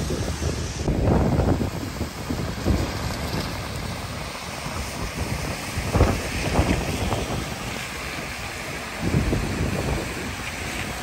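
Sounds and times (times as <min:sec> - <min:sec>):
cars hissing on wet road: 0:00.0 - 0:11.0
wind buffeting microphone: 0:00.0 - 0:11.0.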